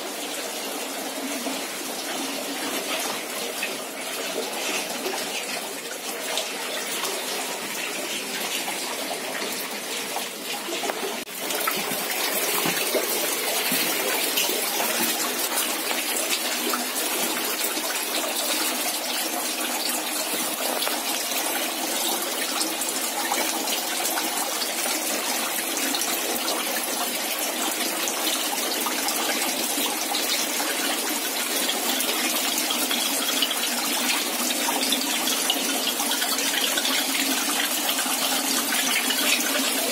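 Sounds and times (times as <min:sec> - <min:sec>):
tap water running and splashing: 0:00.0 - 0:39.9.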